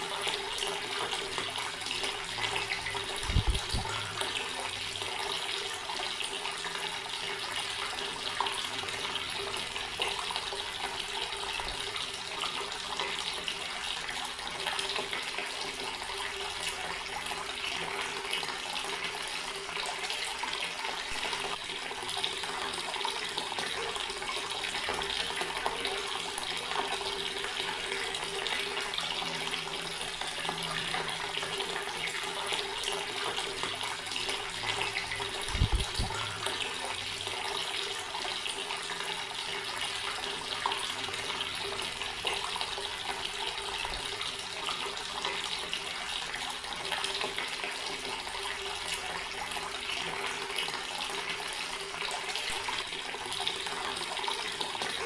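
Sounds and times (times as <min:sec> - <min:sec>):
water tap running: 0:00.0 - 0:55.0.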